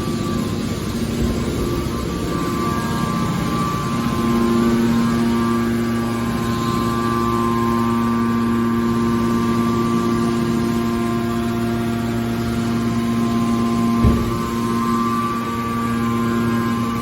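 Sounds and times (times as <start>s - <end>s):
hydraulic baler machine hum: 0.0s - 17.0s.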